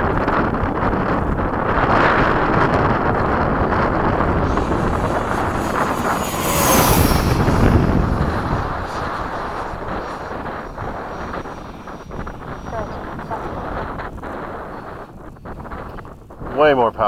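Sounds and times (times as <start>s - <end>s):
rc jet fan whine: 0.0s - 17.0s
wind buffeting microphone: 0.0s - 17.0s.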